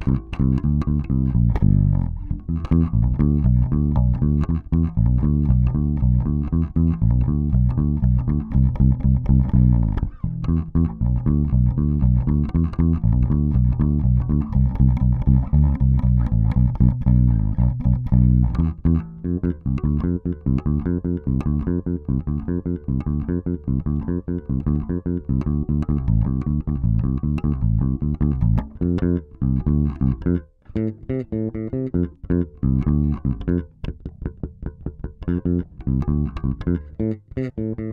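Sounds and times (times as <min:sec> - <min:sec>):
electric bass plucked notes: 0:00.0 - 0:37.9.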